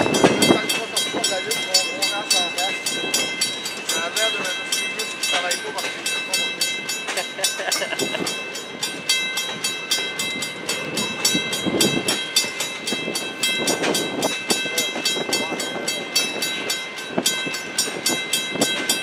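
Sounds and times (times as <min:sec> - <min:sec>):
level-crossing bell ringing: 0:00.0 - 0:19.0
train wheels clacking on rails: 0:00.0 - 0:19.0.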